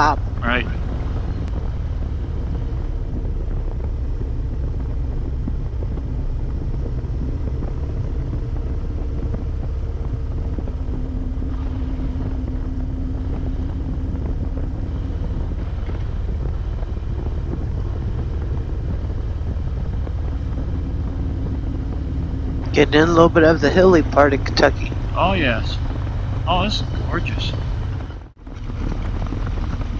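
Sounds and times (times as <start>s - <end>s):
motorcycle engine droning: 0.0s - 29.9s
road and wind noise: 0.0s - 29.9s.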